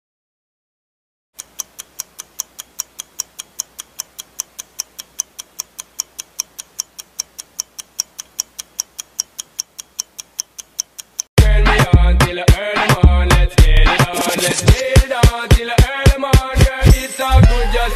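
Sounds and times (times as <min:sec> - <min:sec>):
clock ticking quickly: 0:01.4 - 0:13.0, 0:13.6 - 0:17.0.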